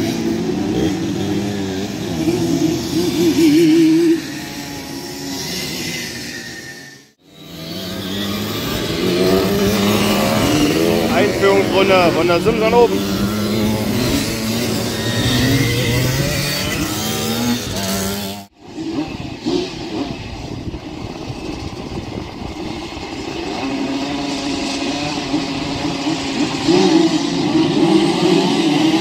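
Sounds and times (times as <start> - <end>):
moped engines revving: 0.0 - 29.0
mopeds riding past: 0.0 - 29.0.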